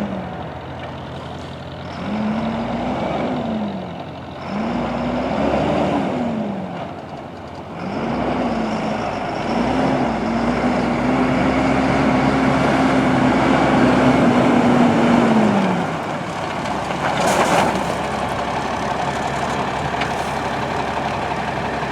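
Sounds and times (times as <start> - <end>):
diesel truck engine revving: 1.5 - 21.9.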